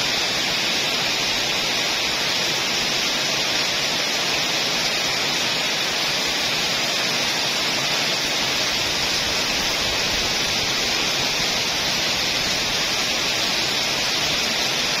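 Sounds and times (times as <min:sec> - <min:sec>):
heavy rain on foliage: 0:00.0 - 0:15.0.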